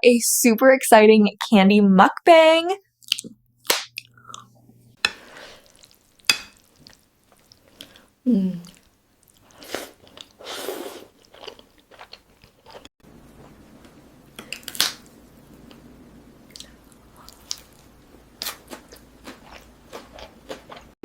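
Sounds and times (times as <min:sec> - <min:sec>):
person chewing crunchy food: 0:03.0 - 0:21.0.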